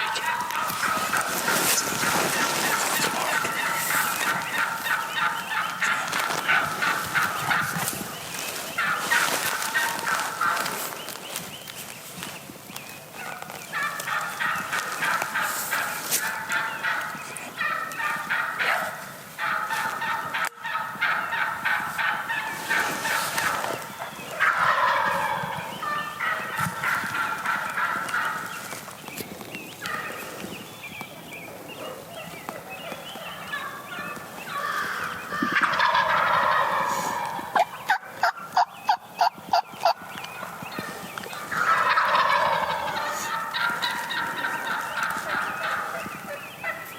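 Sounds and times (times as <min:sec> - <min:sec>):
turkeys gobbling: 0:00.0 - 0:46.9.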